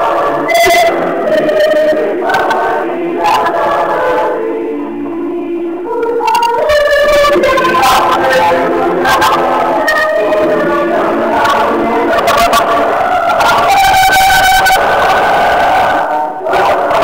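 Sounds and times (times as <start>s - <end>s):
choir singing a cappella: 0.0s - 17.0s.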